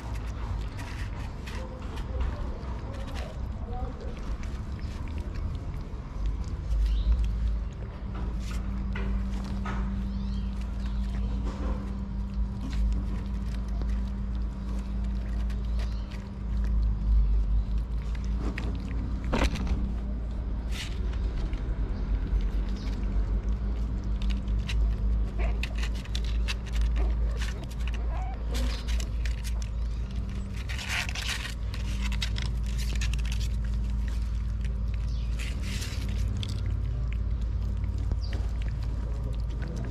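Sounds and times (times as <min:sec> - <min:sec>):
kittens chewing food: 0:00.0 - 0:39.9
steady low rumble: 0:00.0 - 0:39.9.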